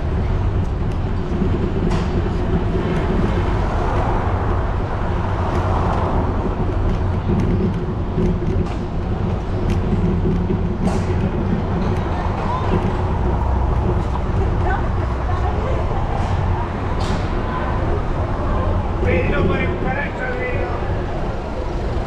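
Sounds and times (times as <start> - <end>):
bicycle rumble on pavement: 0.0 - 22.0
street traffic noise: 0.0 - 22.0.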